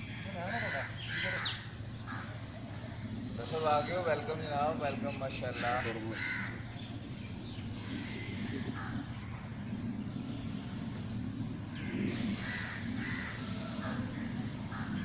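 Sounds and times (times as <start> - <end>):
harsh bird calls: 0.0 - 15.0
low background rumble: 0.0 - 15.0.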